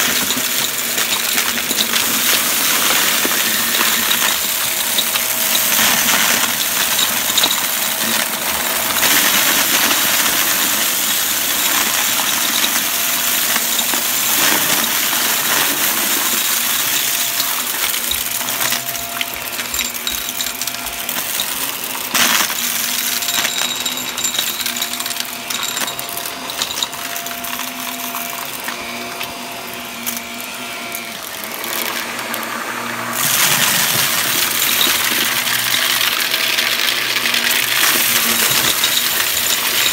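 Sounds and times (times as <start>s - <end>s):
debris rattling inside vacuum: 0.0s - 29.2s, 33.2s - 39.9s
upright vacuum running: 0.0s - 39.9s.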